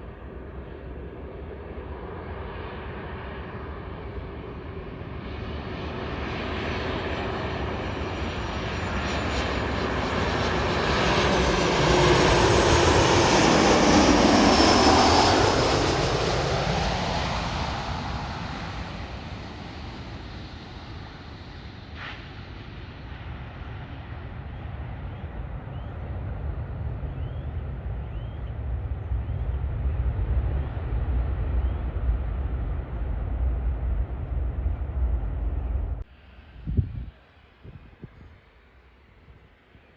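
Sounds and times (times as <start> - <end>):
jet engines passing by: 0.0 - 39.9.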